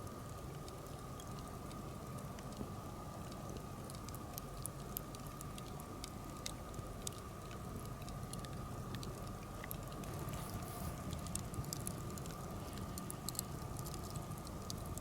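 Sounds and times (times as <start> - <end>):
campfire crackling: 0.1 - 15.0.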